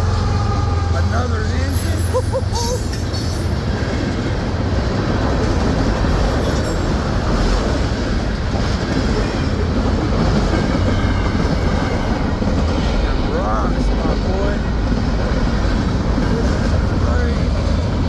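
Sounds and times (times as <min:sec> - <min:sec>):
freight train passing: 0:00.0 - 0:18.0
rattling train cars: 0:00.0 - 0:18.0.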